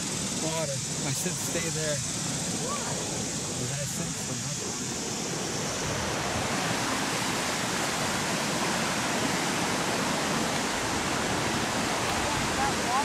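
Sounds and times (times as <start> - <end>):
floodwater rushing over rocks: 0.0 - 13.0.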